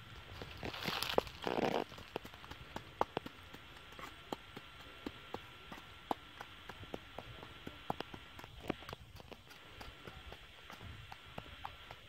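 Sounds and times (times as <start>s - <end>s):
steady background hiss: 0.0s - 12.0s
faint sharp clicks and taps: 1.9s - 12.0s.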